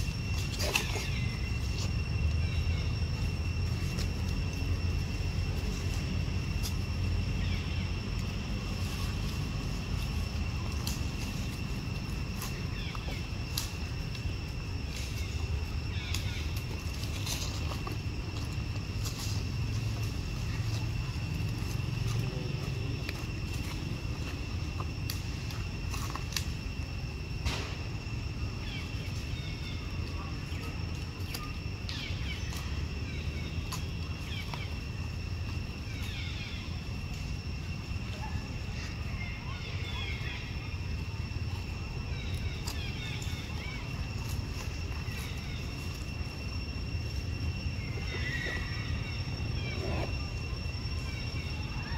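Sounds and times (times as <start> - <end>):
steady low rumble: 0.0 - 51.9.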